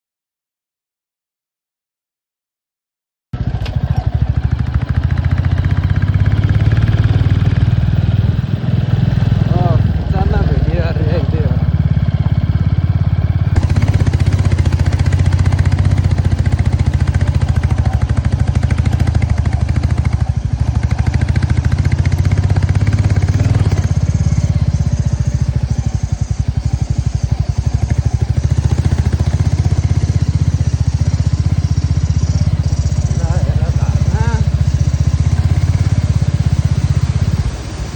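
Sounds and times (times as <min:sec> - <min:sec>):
vehicle engine droning: 0:03.4 - 0:37.9.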